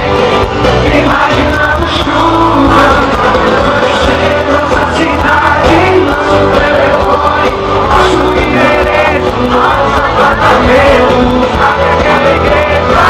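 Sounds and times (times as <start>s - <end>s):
crowd shouting and cheering: 0.0s - 13.0s
live band playing loudly: 0.0s - 13.0s
person singing: 0.0s - 13.0s.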